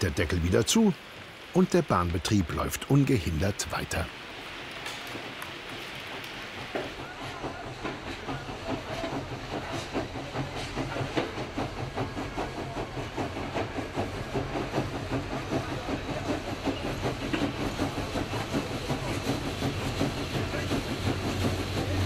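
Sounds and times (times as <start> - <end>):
steam locomotive clatter: 0.0 - 22.0.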